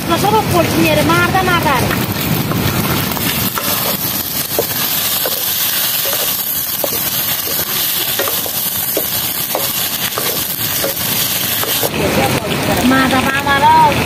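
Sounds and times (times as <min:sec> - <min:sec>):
food sizzling in a pan: 0:00.1 - 0:14.0.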